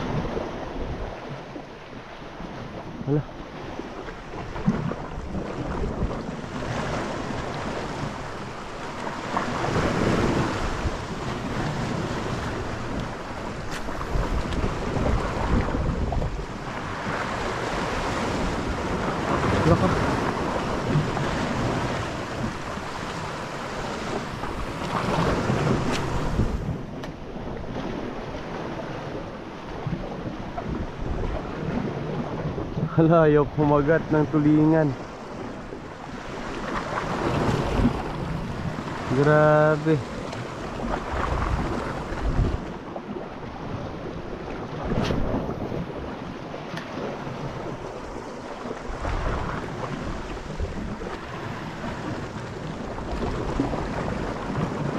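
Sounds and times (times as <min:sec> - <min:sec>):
waves washing against rocks: 0:00.0 - 0:54.9
wind buffeting microphone: 0:00.0 - 0:54.9.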